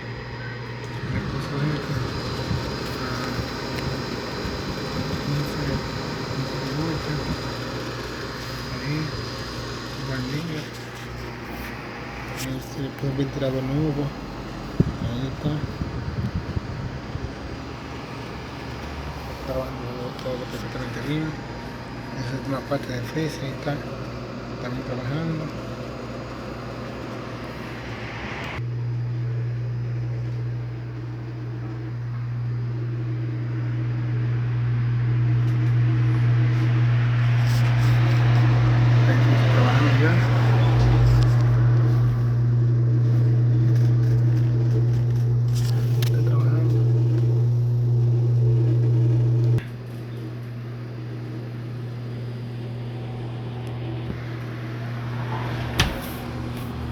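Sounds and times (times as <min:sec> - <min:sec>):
fan air whoosh: 0:00.0 - 0:46.8, 0:49.5 - 0:56.9
compressor motor hum: 0:00.0 - 0:56.9.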